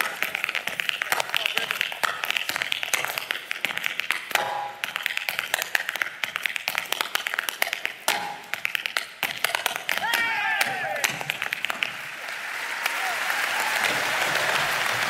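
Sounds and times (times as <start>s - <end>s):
tap shoes on stage floor: 0.0s - 12.1s.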